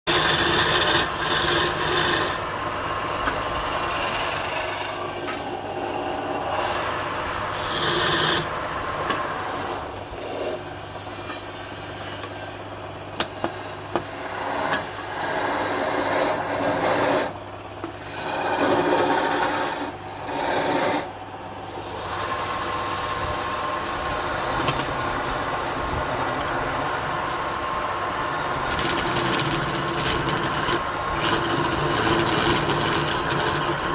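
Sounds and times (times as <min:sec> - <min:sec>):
turning tool scraping wood: 0:00.1 - 0:02.4, 0:03.2 - 0:12.6, 0:13.2 - 0:33.9
wood lathe humming: 0:00.1 - 0:33.9.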